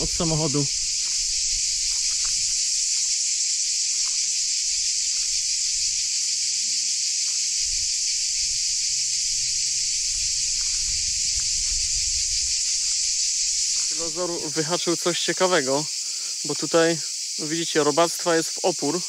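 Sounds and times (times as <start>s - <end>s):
cicadas chorus: 0.0s - 19.0s.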